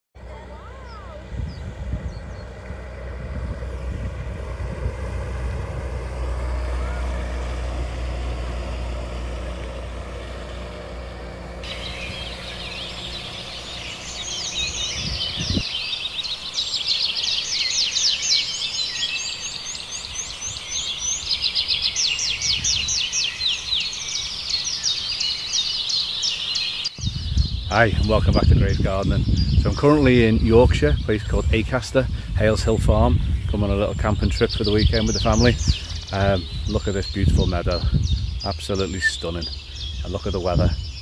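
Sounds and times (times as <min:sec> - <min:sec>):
speedboat engine running: 0:00.2 - 0:27.0, 0:27.7 - 0:41.0
small birds chirping: 0:00.2 - 0:41.0.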